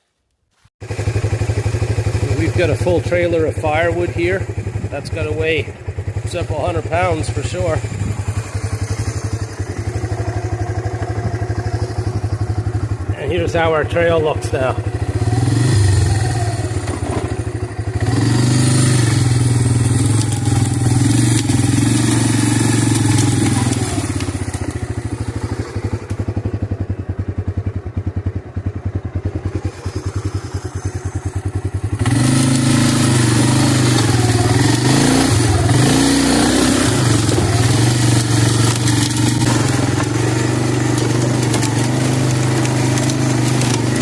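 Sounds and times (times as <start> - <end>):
three-wheeler engine running: 0.8 - 44.0.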